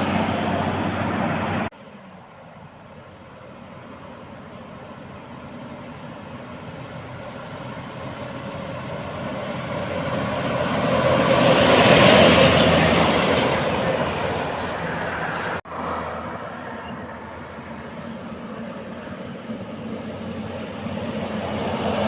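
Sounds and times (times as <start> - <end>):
heavy truck passing: 0.0 - 22.0.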